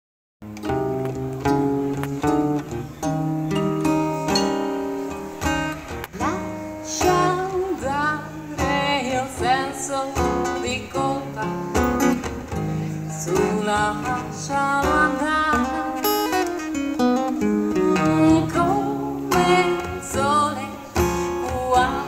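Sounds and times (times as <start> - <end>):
acoustic guitar: 0.4 - 22.0
small plucked string instrument: 0.4 - 22.0.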